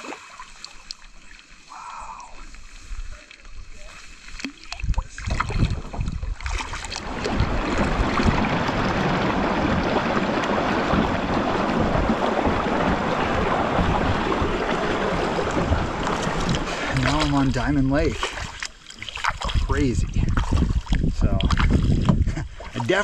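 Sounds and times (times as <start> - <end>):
rapid water rushing: 0.0 - 3.4, 4.4 - 20.0
paddle strokes splashing: 0.0 - 23.0.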